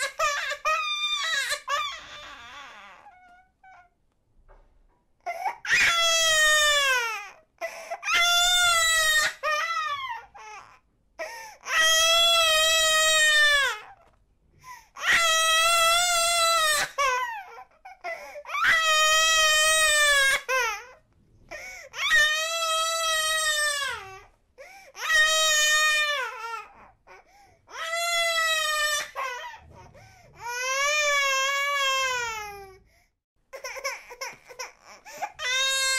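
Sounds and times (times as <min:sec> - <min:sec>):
baby crying: 0:00.0 - 0:04.0, 0:05.2 - 0:14.1, 0:15.0 - 0:21.0, 0:21.6 - 0:24.3, 0:24.9 - 0:29.6, 0:30.4 - 0:32.8, 0:33.5 - 0:35.9.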